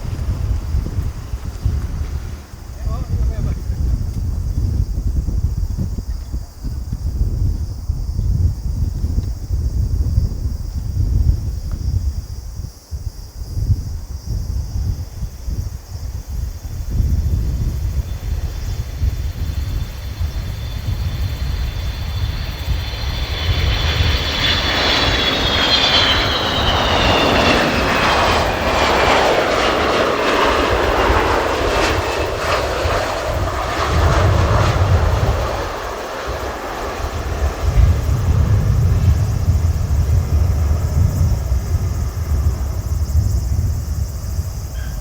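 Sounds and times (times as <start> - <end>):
jet engines passing overhead: 0.0 - 45.0.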